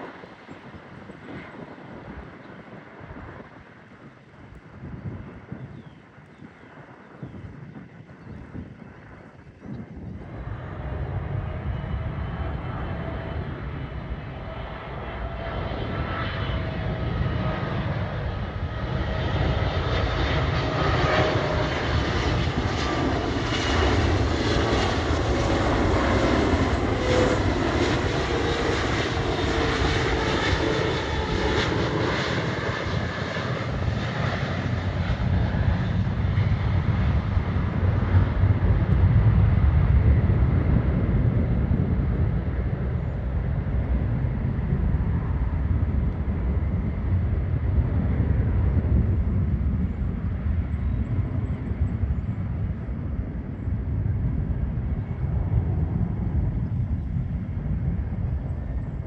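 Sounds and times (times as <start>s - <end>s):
jet engines passing: 0.0s - 59.0s.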